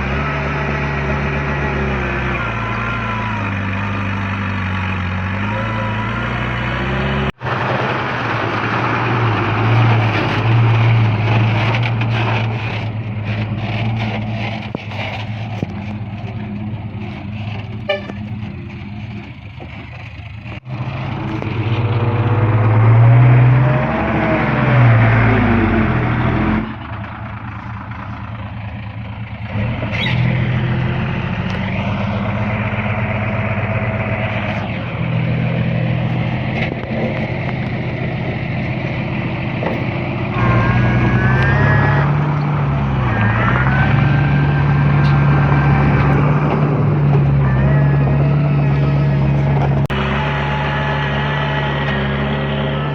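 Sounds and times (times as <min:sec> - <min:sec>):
heavy diesel machinery engines revving: 0:00.0 - 0:52.9.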